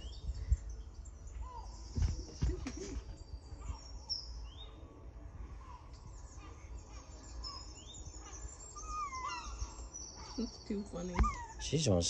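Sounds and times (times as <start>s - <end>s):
birds chirping through speakers: 0.0s - 12.0s.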